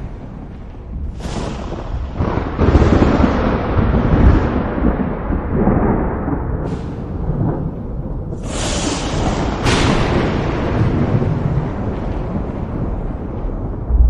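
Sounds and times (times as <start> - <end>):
rain hiss: 0.0 - 13.4
thunder crack and rumble: 0.0 - 14.0
wind: 0.0 - 14.0.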